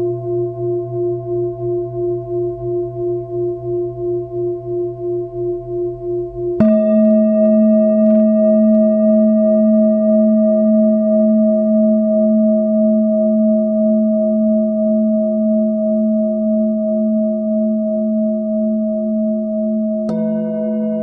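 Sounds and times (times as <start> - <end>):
singing bowl ringing: 0.0 - 21.0.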